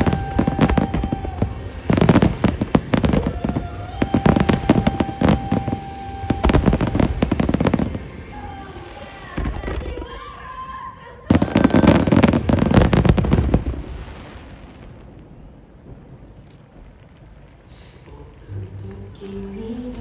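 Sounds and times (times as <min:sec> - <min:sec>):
fireworks bursting with bangs: 0:00.0 - 0:20.0
long steady tone: 0:00.0 - 0:20.0.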